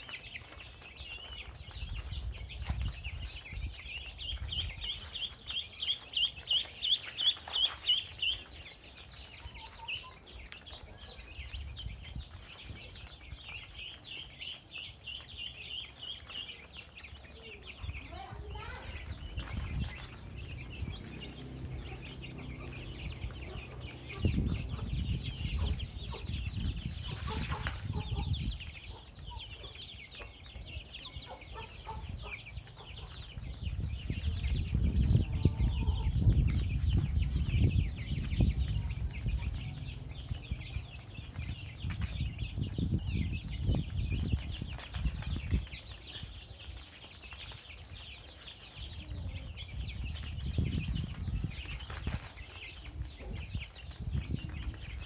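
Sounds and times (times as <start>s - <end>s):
chicks peeping and chirping: 0.0s - 55.0s.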